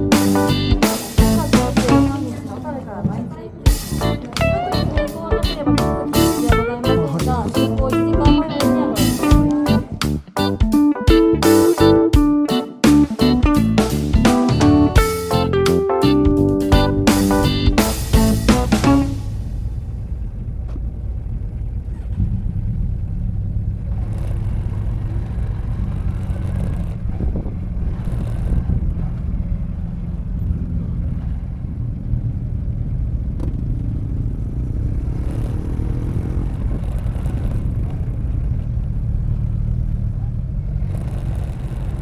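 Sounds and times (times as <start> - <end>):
vehicle engine rumble: 0.0 - 12.1, 12.9 - 42.0.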